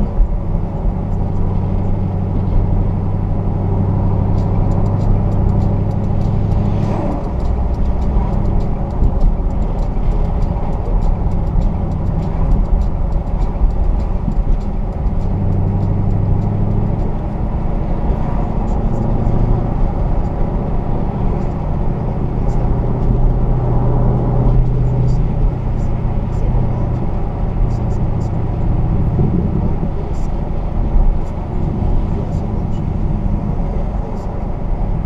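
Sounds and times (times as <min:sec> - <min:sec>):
car engine drone: 0:00.0 - 0:35.0
road noise: 0:00.0 - 0:35.0.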